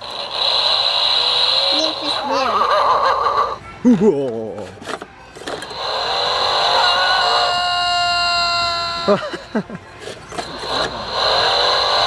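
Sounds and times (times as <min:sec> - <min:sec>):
toy truck electronic sound effect: 0:00.0 - 0:03.6, 0:04.8 - 0:12.0.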